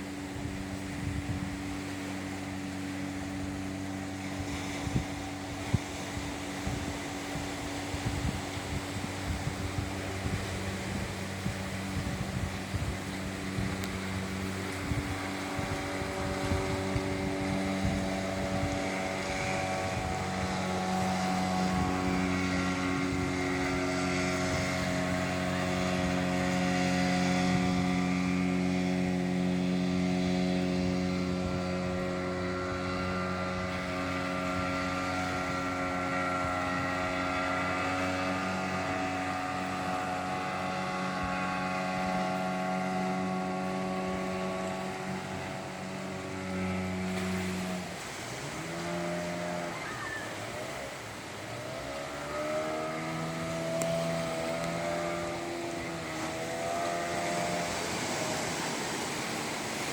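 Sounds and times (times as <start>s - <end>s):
motorboat engine running: 0.0s - 59.9s.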